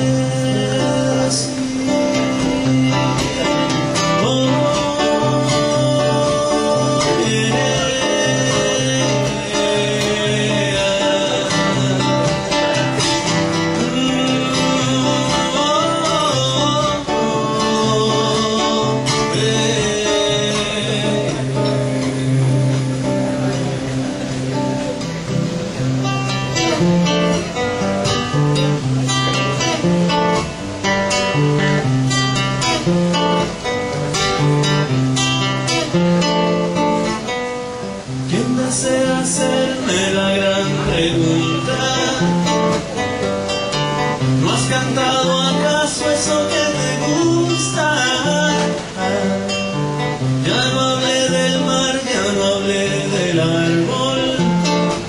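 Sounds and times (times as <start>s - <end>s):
acoustic guitars playing: 0.0s - 55.0s.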